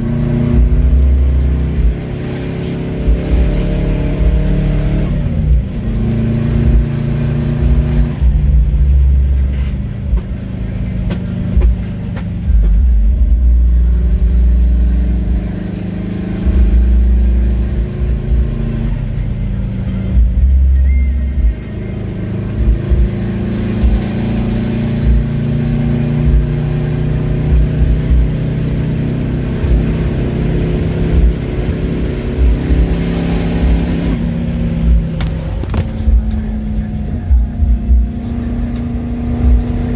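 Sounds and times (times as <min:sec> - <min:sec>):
car engine rumbling under load: 0:00.0 - 0:39.9.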